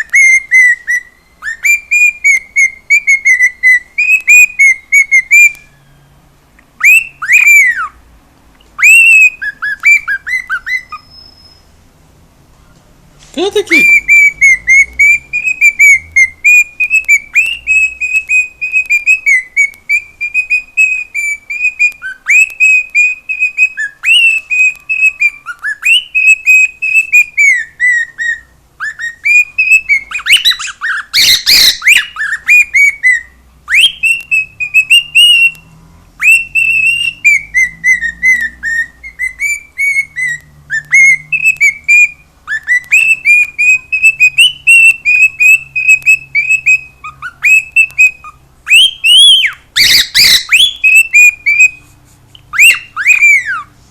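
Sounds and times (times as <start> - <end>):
cockatiel warbling and whistling: 0.0 - 6.2, 6.8 - 8.0, 8.6 - 11.8, 13.4 - 53.8.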